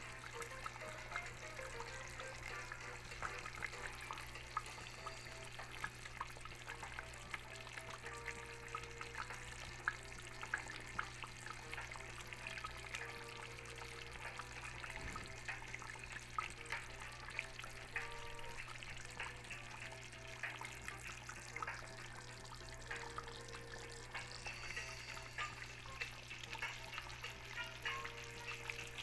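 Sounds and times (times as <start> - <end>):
stew bubbling: 0.0 - 29.0.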